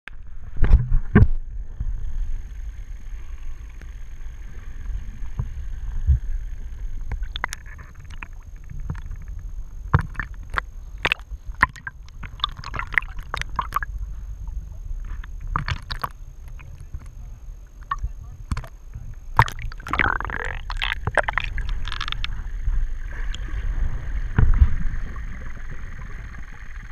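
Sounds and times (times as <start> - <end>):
muffled underwater rumble: 0.1 - 26.9
water splashing around camera: 0.1 - 26.9.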